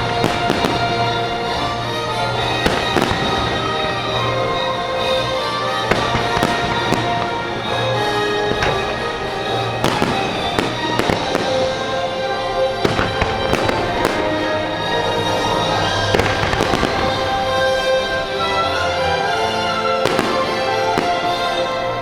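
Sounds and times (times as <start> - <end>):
fireworks bangs and crackles: 0.0 - 22.0
orchestral music: 0.0 - 22.0.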